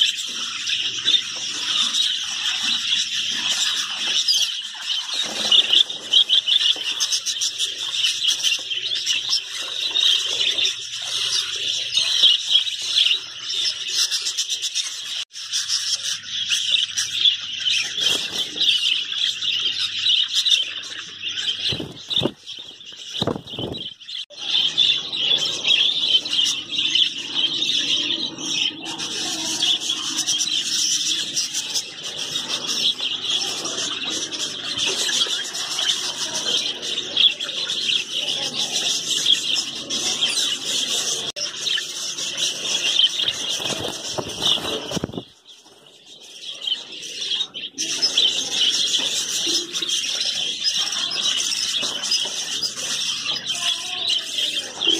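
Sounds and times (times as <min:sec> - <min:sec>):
budgerigars chirping: 0:00.0 - 0:54.9.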